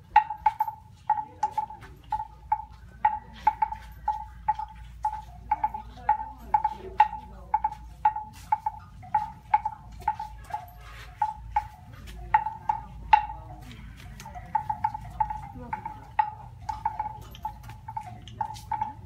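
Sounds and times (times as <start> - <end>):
bell clanking: 0.0 - 19.0.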